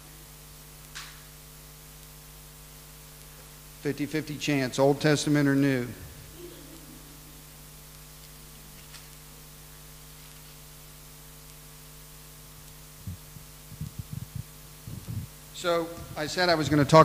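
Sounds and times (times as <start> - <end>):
electrical mains hum and hiss: 0.0 - 17.0.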